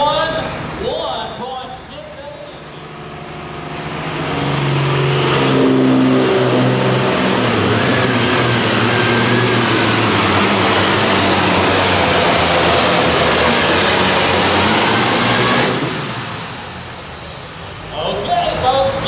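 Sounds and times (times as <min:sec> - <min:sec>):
high whine rising in pitch: 0:00.0 - 0:18.3
tractor diesel engine roaring: 0:00.0 - 0:19.0.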